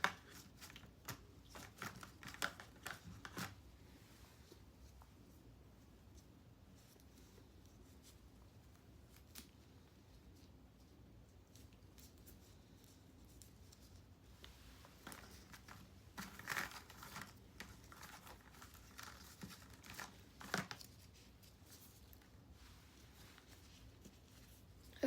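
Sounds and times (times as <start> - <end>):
tape rustling and crinkling: 0.0 - 25.0.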